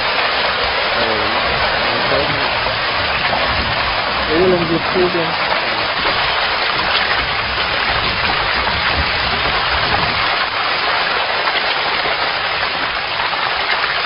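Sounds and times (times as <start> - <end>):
fish splashing in water: 0.0 - 14.0.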